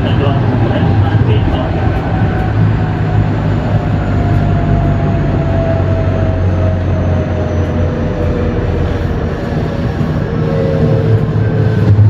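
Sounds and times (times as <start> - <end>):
electric train motor whine: 0.0 - 12.0.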